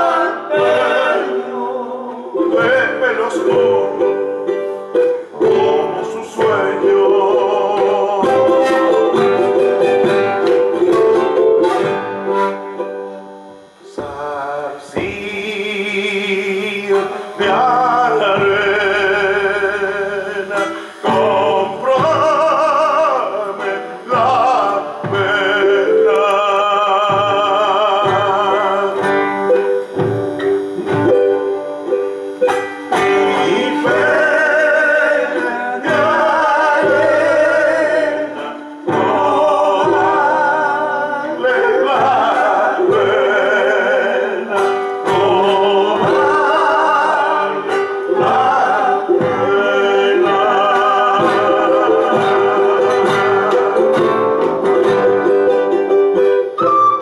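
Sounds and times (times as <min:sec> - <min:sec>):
classical guitar strummed and plucked: 0:00.0 - 0:57.0
man singing with vibrato: 0:00.0 - 0:57.0.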